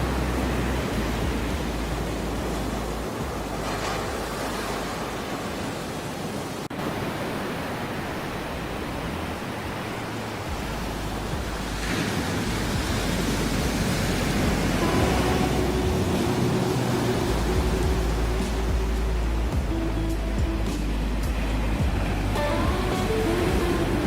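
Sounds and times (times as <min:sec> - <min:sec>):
ocean waves rushing: 0:00.0 - 0:24.0.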